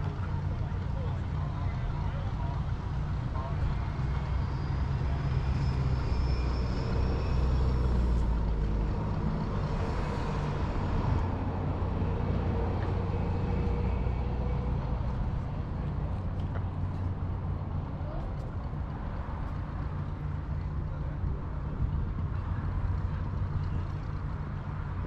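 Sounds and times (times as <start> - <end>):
traffic passing: 0.0 - 25.0.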